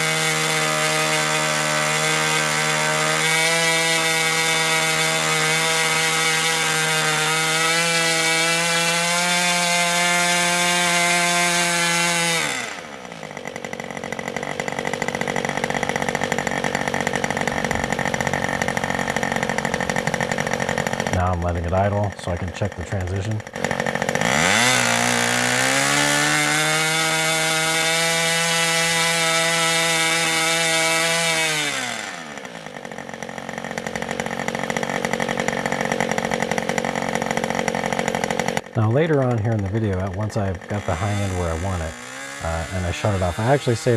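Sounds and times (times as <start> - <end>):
nitro engine running and idling: 0.0 - 43.9.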